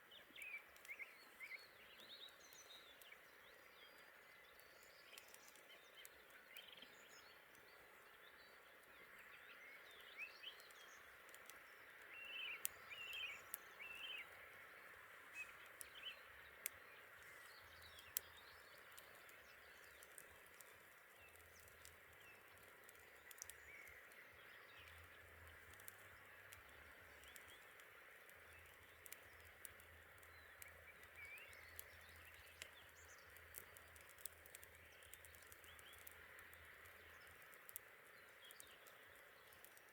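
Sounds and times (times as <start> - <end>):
bonfire crackles and pops: 0.0 - 39.9
birds chirping: 0.1 - 39.8.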